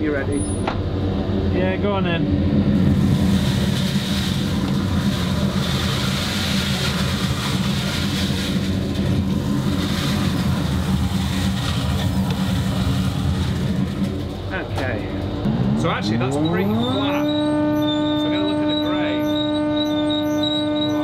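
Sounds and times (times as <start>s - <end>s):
dust extractor drone: 0.0s - 21.0s.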